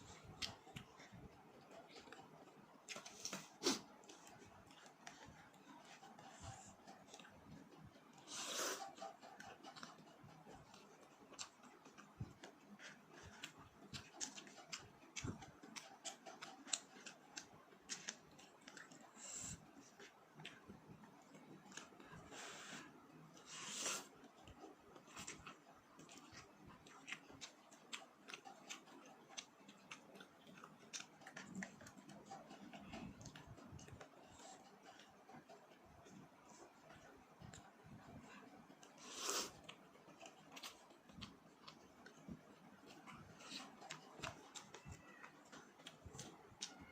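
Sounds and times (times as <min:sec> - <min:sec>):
chewing with small clicks: 0:00.0 - 0:46.9.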